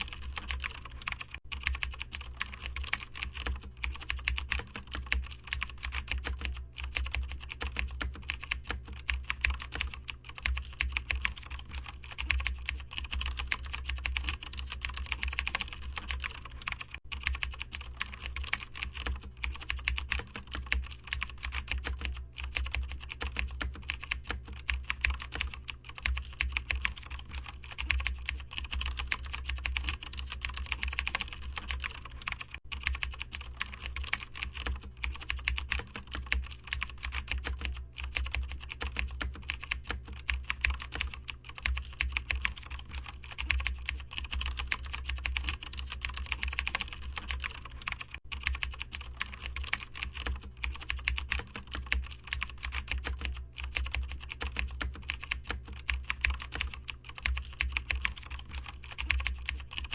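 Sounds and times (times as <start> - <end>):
fast typing on keyboard: 0.0 - 59.9
steady low hum: 0.0 - 59.9.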